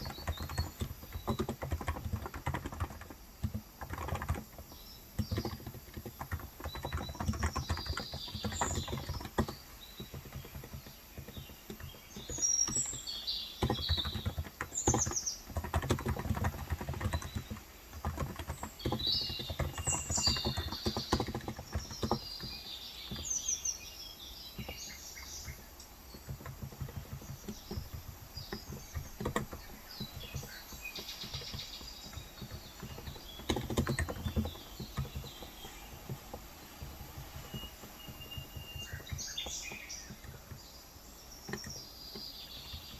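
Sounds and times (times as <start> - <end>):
keyboard typing: 0.0 - 23.4, 25.4 - 40.7, 41.4 - 42.9
small birds chirping: 0.0 - 42.9.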